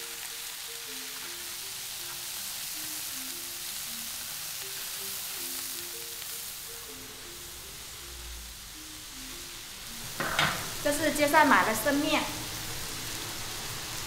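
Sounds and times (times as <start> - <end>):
soft background music: 0.0 - 14.0
vegetables sizzling in a wok: 0.0 - 14.0.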